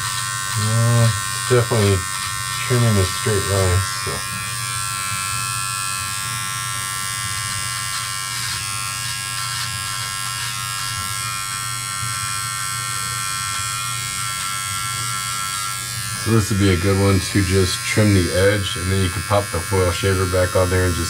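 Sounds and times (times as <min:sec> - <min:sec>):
electric trimmer buzzing: 0:00.0 - 0:21.0.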